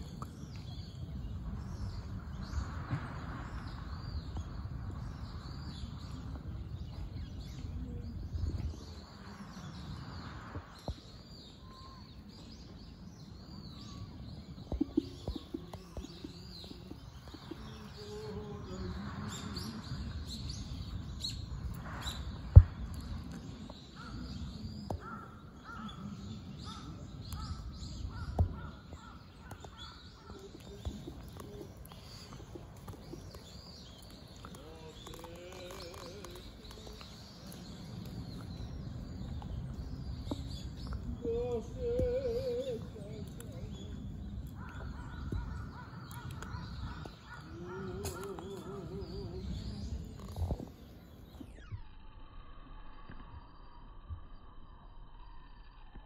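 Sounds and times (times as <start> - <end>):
small birds chirping: 0.0 - 52.0
low rumble on microphone: 0.0 - 56.0.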